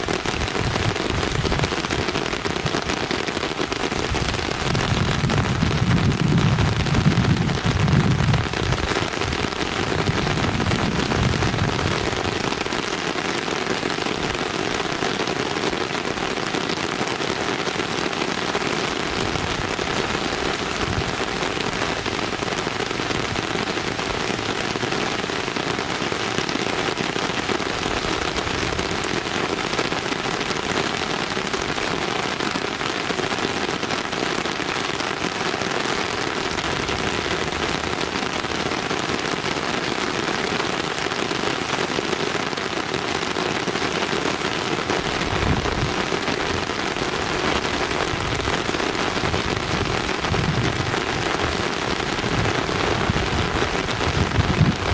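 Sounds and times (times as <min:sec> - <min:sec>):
rain-like hiss with crackle: 0:00.0 - 0:54.9.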